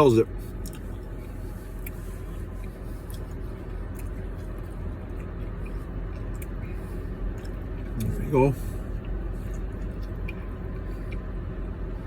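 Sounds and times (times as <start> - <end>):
steady low hum: 0.0 - 12.0
person chewing ice cream: 0.5 - 12.0.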